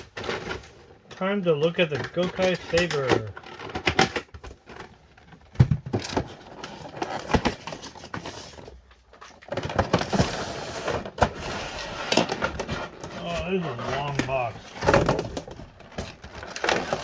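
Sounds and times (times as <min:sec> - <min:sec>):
packaging rustling and scraping: 0:00.0 - 0:17.0.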